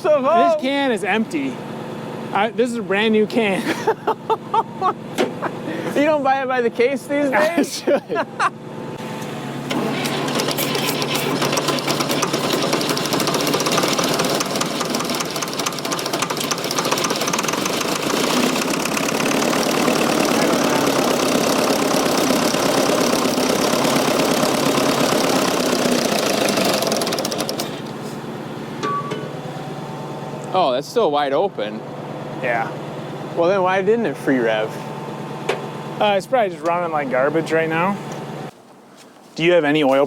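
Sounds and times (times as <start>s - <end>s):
diesel tractor engine running rough: 0.2s - 3.6s, 4.2s - 6.2s, 8.5s - 30.5s, 31.1s - 38.5s.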